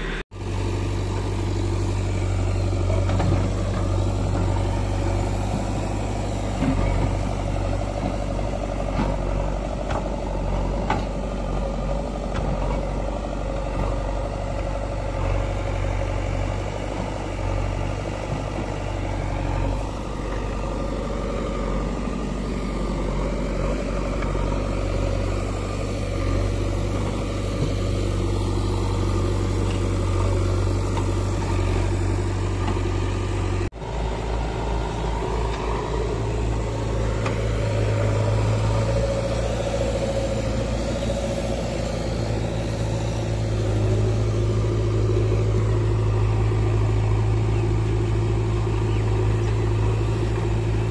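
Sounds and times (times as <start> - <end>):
diesel engine running: 0.0 - 50.9
engine with pulsing throb: 0.0 - 50.9.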